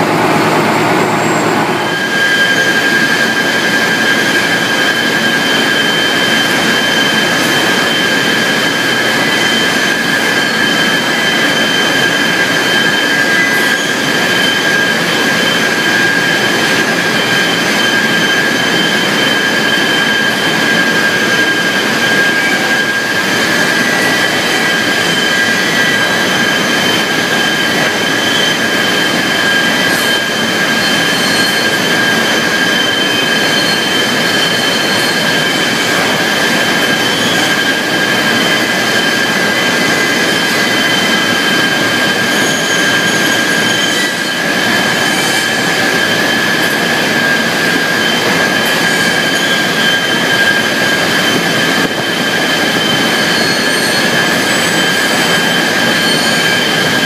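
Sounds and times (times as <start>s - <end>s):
high-pitched machine whine: 0.0s - 57.0s.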